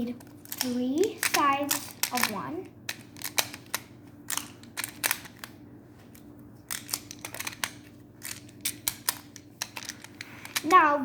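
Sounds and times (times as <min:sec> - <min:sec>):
plastic tiles clicking together: 0:00.5 - 0:05.5, 0:06.7 - 0:10.7.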